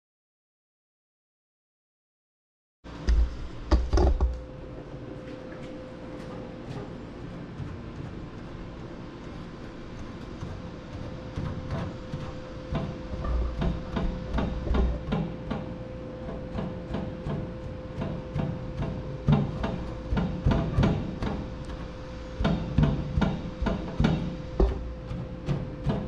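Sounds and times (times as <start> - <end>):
steady hum: 2.9 - 26.0.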